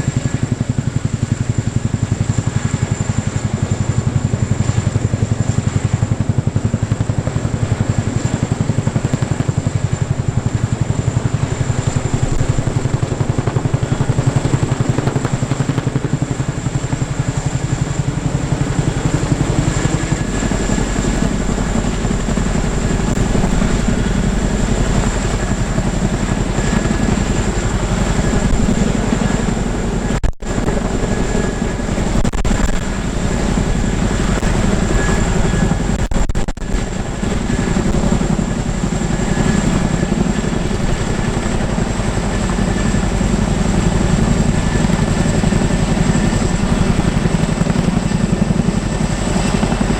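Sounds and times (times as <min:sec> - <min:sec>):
helicopter rotors and turbines: 0:00.0 - 0:49.9.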